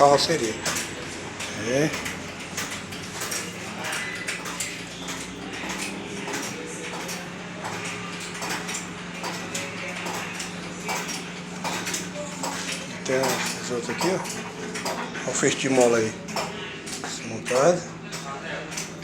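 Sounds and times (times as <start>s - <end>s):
low machine hum: 0.0s - 19.0s
metallic clinks of tools: 0.3s - 19.0s.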